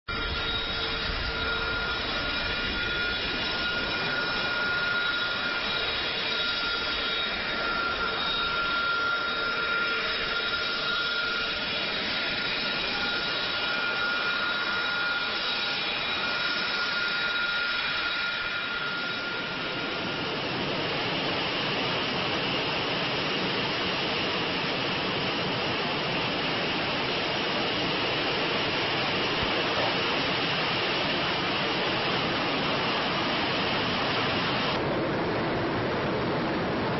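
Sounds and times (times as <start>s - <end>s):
high engine whine: 0.1s - 36.9s
jet engine roaring: 0.1s - 36.9s.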